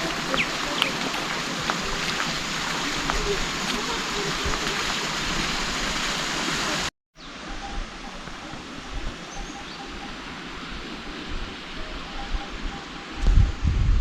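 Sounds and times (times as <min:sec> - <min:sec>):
heavy rain: 0:00.0 - 0:13.5
rain and wind: 0:00.0 - 0:14.0.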